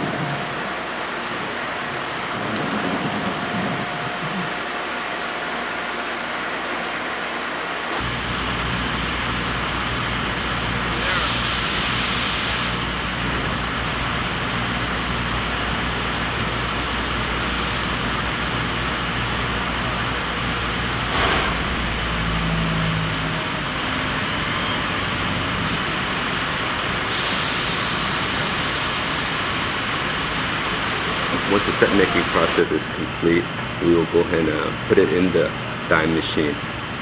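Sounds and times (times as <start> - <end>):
textile machinery running: 0.0 - 11.8, 12.8 - 37.0.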